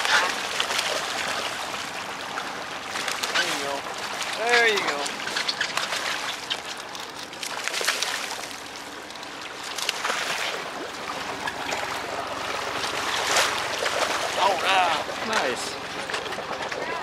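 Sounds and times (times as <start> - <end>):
water splashing beside boat: 0.0 - 17.0.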